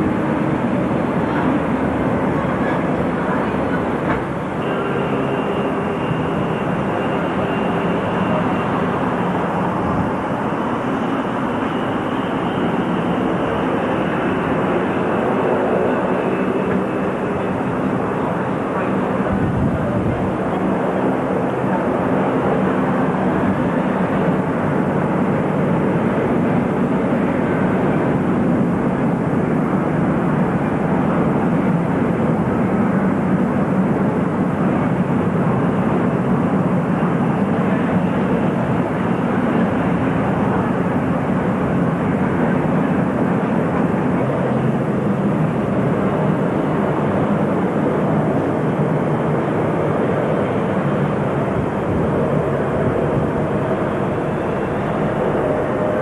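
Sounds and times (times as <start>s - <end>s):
jet engine noise: 0.0s - 56.0s.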